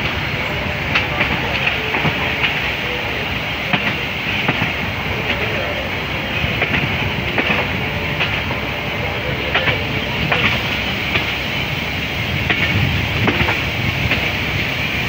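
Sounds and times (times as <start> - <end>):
wheels clacking over rail joints: 0.0 - 11.4, 12.4 - 14.4
train wheels rumbling on rail: 0.0 - 15.0.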